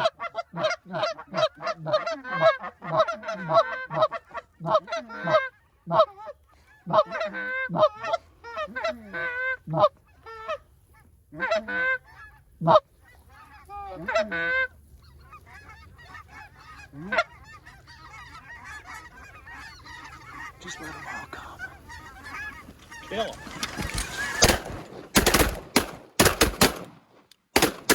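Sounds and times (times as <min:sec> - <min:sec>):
many geese chattering: 0:00.0 - 0:25.9.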